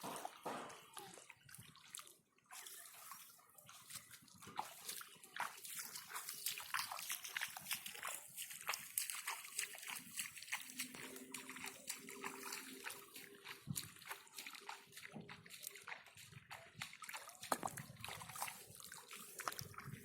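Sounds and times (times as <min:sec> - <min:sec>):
splashing in shallow muddy water: 0:00.0 - 0:20.0.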